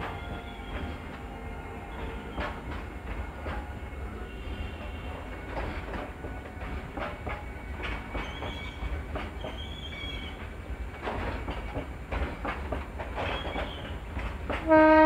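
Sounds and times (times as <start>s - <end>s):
wheels clacking over rail joints: 0.0s - 15.0s.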